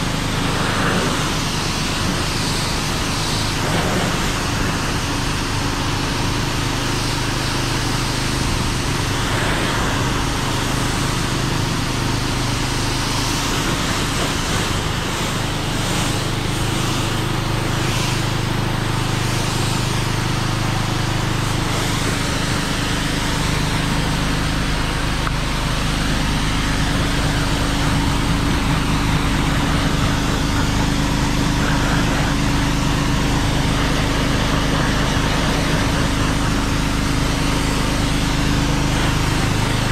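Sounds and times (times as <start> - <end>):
pressure washer water jet hissing: 0.0 - 39.9
pump motor humming: 0.0 - 39.9.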